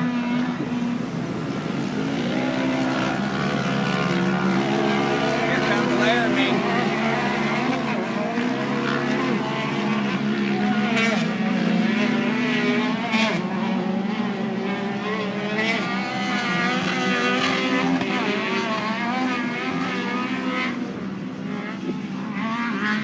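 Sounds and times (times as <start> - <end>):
race vehicle engines revving: 0.0 - 23.0.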